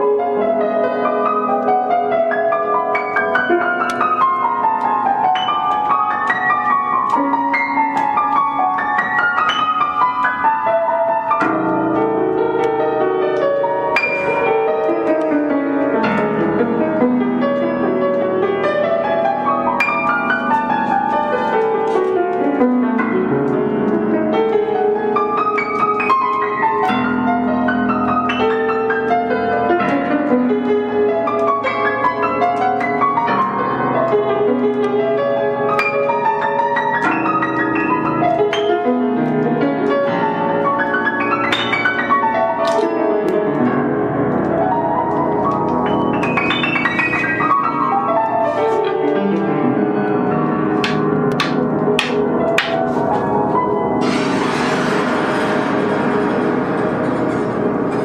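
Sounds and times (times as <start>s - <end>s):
upright piano playing fast: 0.0s - 58.0s.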